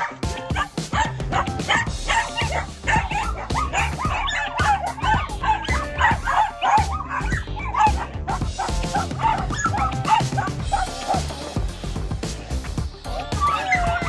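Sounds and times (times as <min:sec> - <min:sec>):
small dogs yapping and barking: 0:00.0 - 0:11.4, 0:13.2 - 0:14.0
background music with beat: 0:00.0 - 0:14.0.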